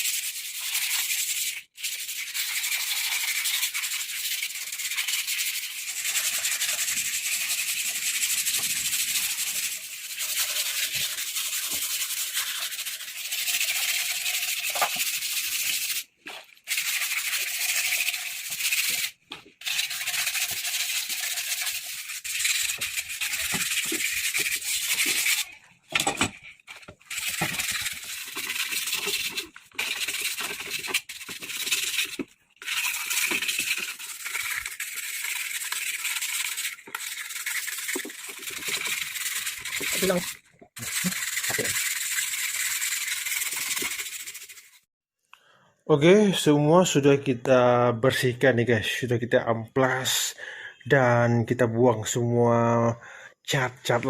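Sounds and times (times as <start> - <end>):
sandpaper rubbing on metal: 0.0 - 44.9.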